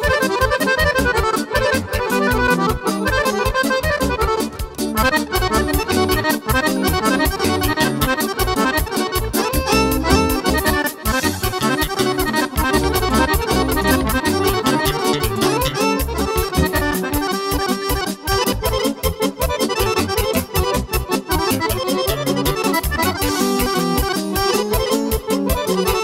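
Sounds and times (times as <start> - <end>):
accordions playing fast runs: 0.0 - 26.0
keyboard accompaniment: 0.0 - 26.0.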